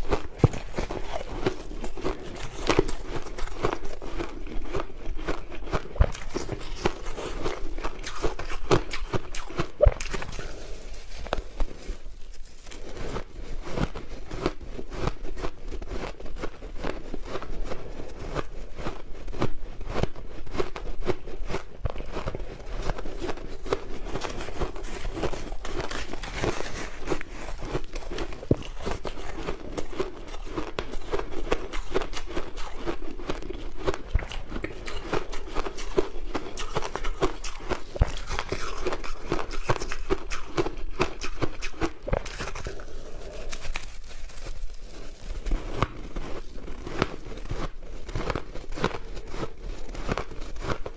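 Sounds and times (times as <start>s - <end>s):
crushed ice being chewed: 0.0s - 50.9s.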